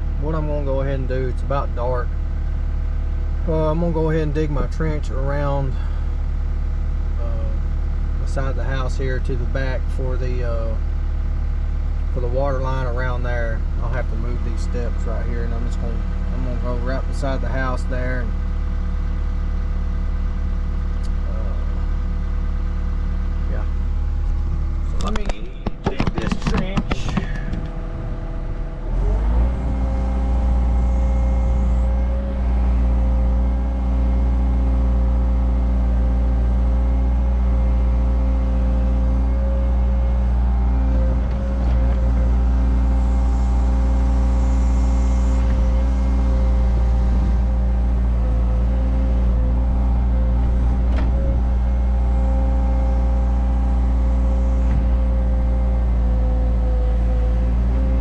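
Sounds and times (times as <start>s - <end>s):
excavator diesel engine revving: 0.0s - 58.0s.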